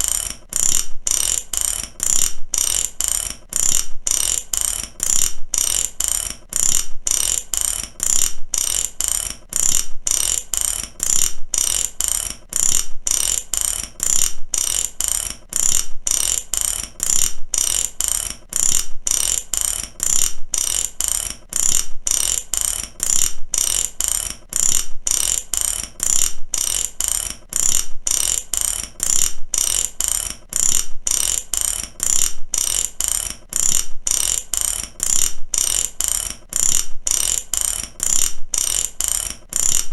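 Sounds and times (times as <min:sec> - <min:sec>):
ratchet wrench clicking: 0:00.0 - 0:39.9.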